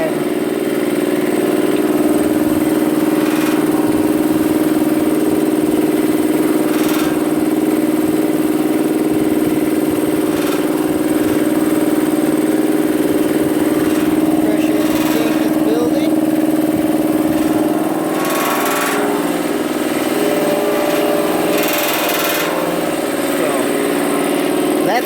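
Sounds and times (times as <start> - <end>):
air compressor running: 0.0 - 25.0.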